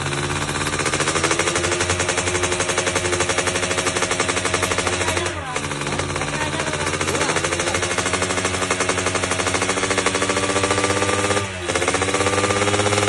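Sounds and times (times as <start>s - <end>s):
racing motorcycle engine revving: 0.0s - 13.0s.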